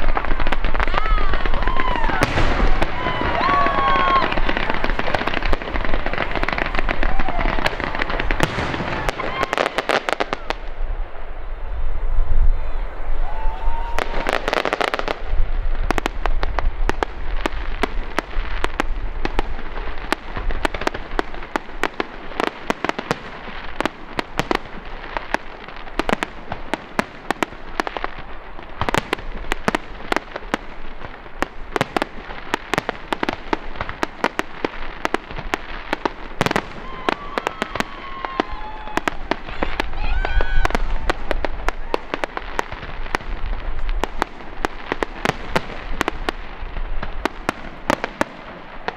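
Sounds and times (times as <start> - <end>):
fireworks cracking and popping: 0.0 - 11.4, 12.0 - 48.9.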